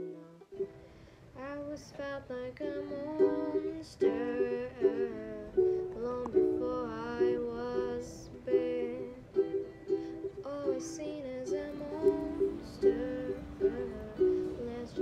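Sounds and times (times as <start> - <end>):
person singing: 0.0 - 15.0
plucked strings: 0.0 - 15.0.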